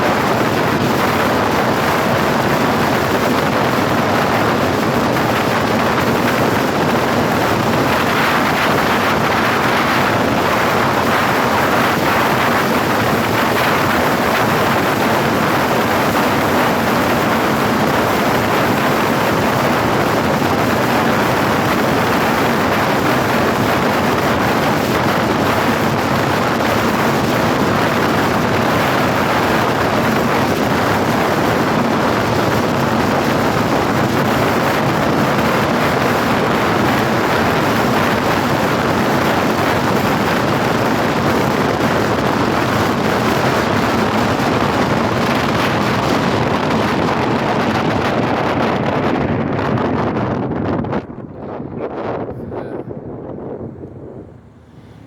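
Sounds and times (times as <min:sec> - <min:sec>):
road noise at speed: 0:00.0 - 0:55.0
wind rushing on microphone: 0:00.0 - 0:55.0.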